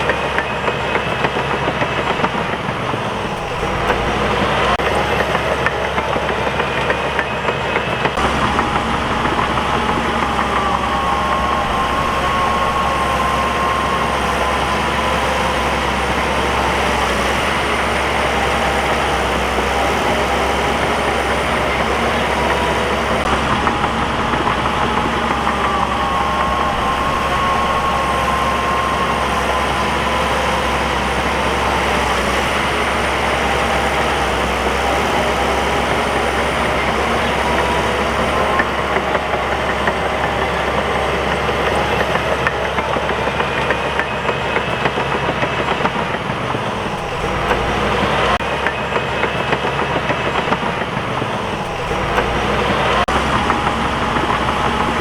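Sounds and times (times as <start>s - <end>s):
bulldozer diesel engine running: 0.0s - 55.0s
engine whine: 0.0s - 55.0s.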